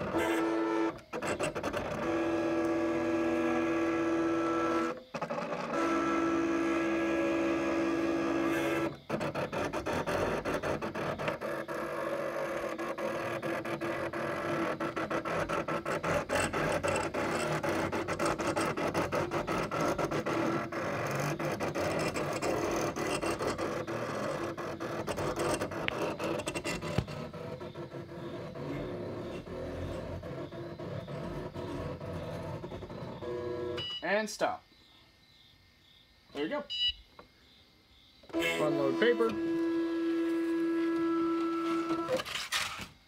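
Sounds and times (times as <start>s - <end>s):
cutting machine stuttering chatter: 0.0s - 33.8s, 38.3s - 42.2s
cutting machine motors whining: 0.0s - 34.0s, 38.3s - 42.4s.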